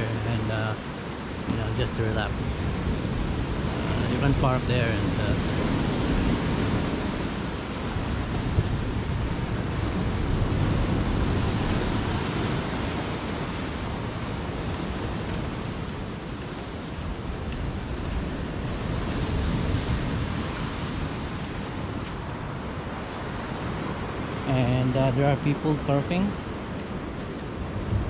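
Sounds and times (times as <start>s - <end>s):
ocean surf breaking: 0.0s - 28.0s
wind on microphone: 0.0s - 28.0s.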